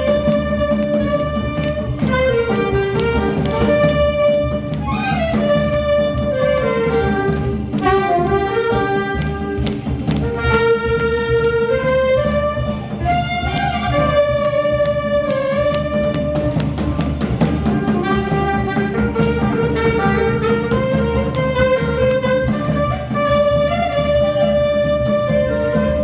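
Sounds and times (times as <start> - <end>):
saxophone melody: 0.0 - 26.0
steady musical accompaniment: 0.0 - 26.0.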